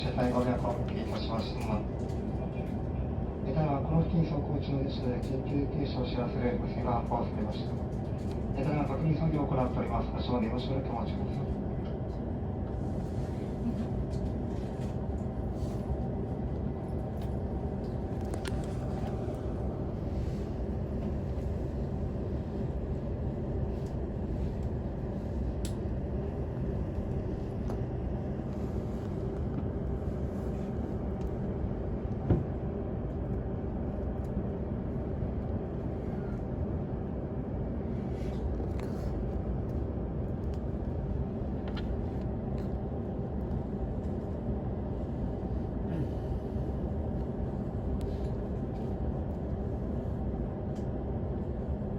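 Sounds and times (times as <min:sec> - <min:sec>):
low hum inside train car: 0:00.0 - 0:51.9.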